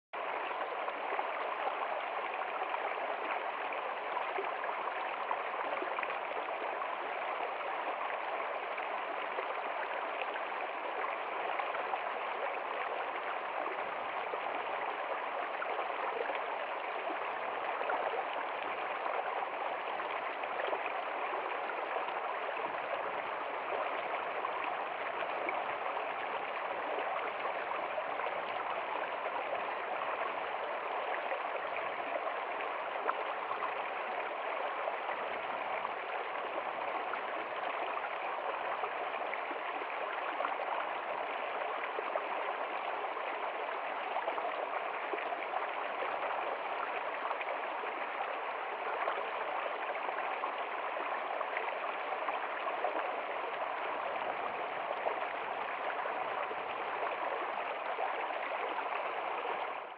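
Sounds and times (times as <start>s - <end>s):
stream flowing over rocks: 0.2s - 59.9s.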